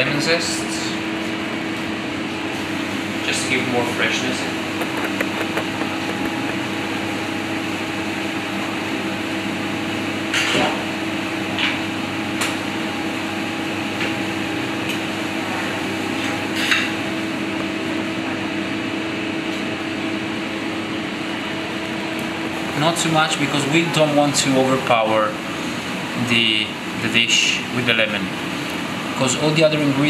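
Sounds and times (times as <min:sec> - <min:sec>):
kitchen ventilation hum: 0:00.0 - 0:30.0.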